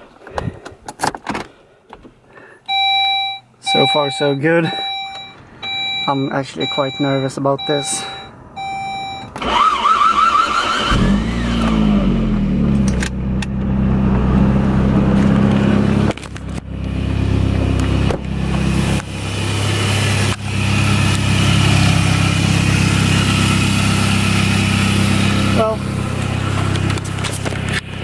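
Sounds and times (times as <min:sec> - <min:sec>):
car engine starting and idling: 0:02.7 - 0:28.0.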